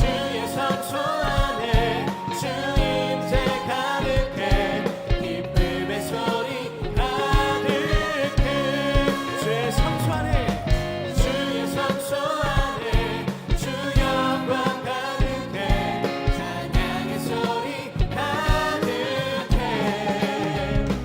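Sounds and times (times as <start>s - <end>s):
people singing praise song: 0.0s - 21.0s
steady drum beat: 0.0s - 21.0s.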